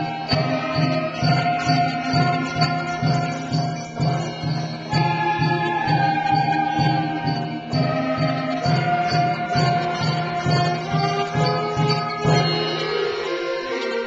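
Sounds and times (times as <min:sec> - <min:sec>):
high jingling tick: 0:00.0 - 0:14.0
school band playing: 0:00.0 - 0:14.0.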